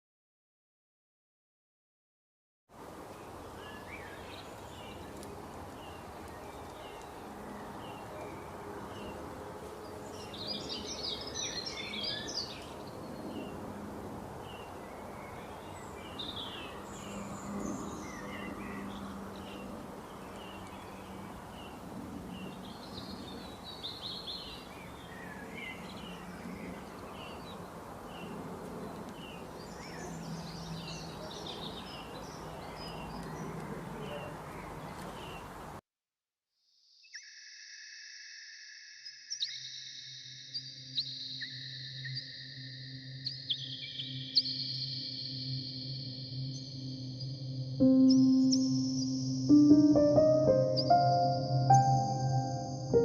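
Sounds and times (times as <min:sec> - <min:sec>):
background noise: 0:02.7 - 0:35.8, 0:37.2 - 0:53.0
birds twittering song: 0:03.0 - 0:35.8, 0:39.0 - 0:53.0.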